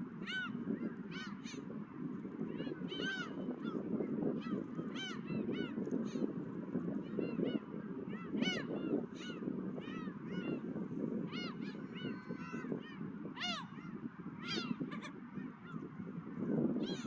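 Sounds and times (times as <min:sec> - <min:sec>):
seagulls calling: 0:00.0 - 0:06.3, 0:07.1 - 0:17.0.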